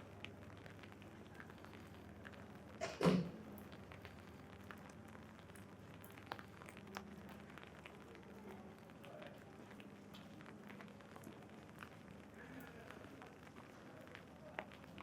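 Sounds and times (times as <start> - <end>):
rain on an umbrella: 0.0 - 15.0.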